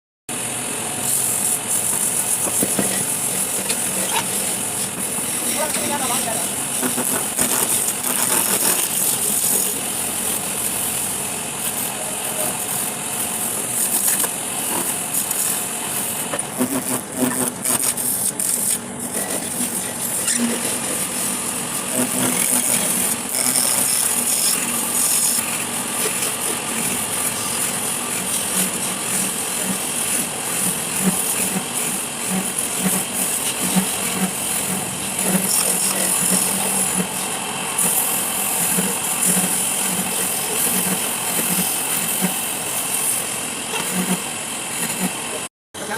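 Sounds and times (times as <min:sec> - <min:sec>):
power tool grinding wood: 0:01.0 - 0:45.3.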